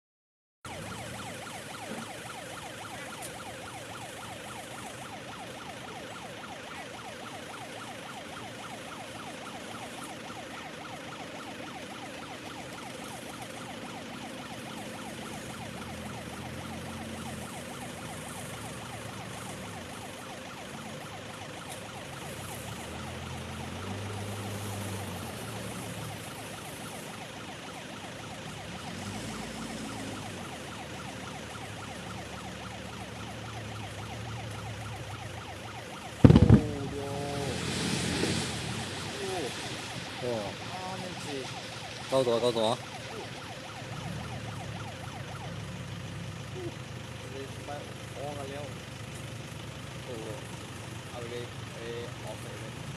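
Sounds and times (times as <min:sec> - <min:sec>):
warning siren: 0:00.6 - 0:48.9, 0:49.5 - 0:52.9.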